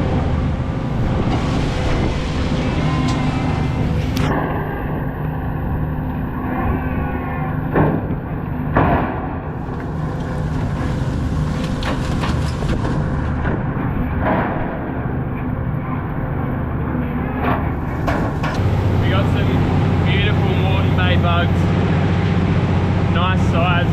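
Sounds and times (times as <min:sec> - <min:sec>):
boat engine running: 0:00.0 - 0:23.9.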